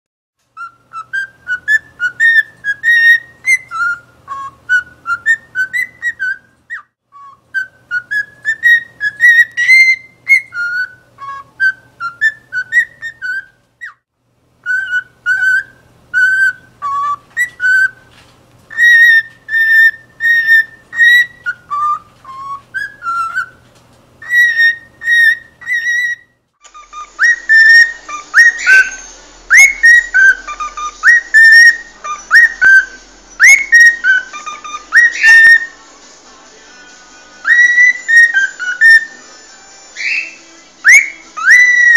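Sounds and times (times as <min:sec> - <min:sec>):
cockatiel whistling: 0:00.6 - 0:14.0, 0:14.6 - 0:18.1, 0:18.7 - 0:23.6, 0:24.2 - 0:35.8, 0:37.4 - 0:39.2, 0:40.0 - 0:41.9.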